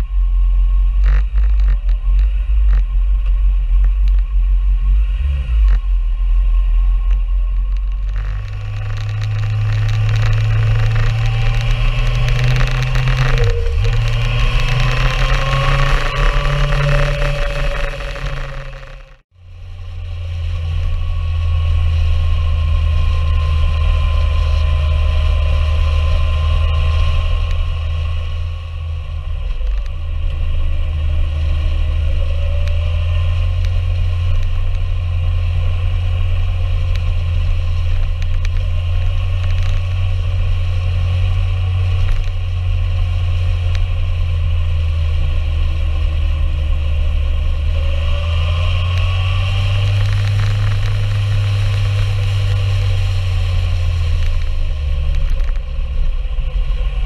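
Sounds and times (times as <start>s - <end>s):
motorcycle engine rumbling: 0.0s - 57.0s
wind noise: 0.0s - 57.0s.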